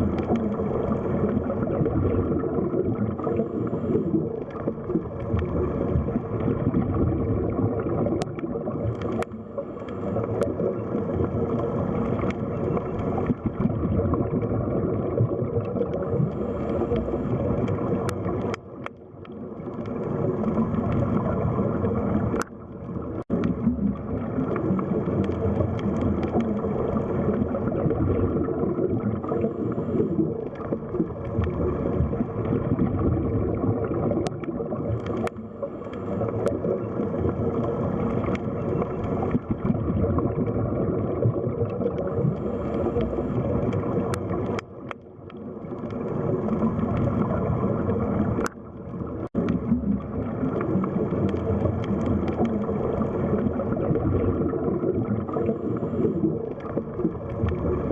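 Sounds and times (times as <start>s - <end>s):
underwater water wash: 0.0s - 57.9s.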